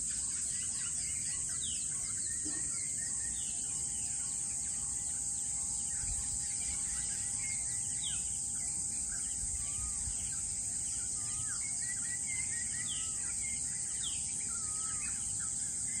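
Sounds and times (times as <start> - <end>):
high-pitched insect drone: 0.0 - 16.0
small birds chirping and whistling: 0.0 - 16.0.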